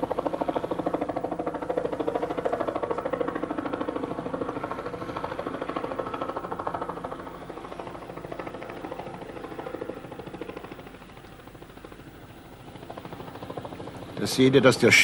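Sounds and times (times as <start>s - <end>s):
helicopter rotor chopping: 0.0s - 15.0s
turbine running: 0.0s - 15.0s.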